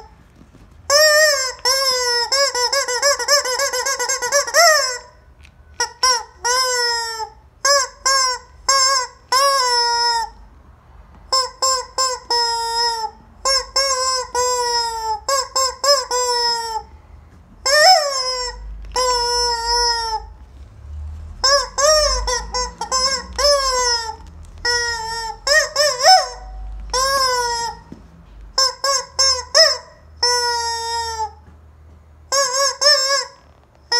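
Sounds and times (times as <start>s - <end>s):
rubber squeaky toy squawking: 0.0s - 0.2s, 0.9s - 10.5s, 11.3s - 17.0s, 17.6s - 20.5s, 21.4s - 31.5s, 32.3s - 33.9s.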